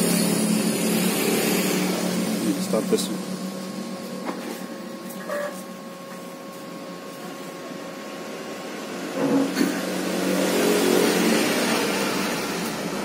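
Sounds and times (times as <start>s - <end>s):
photocopier humming: 0.2s - 13.0s.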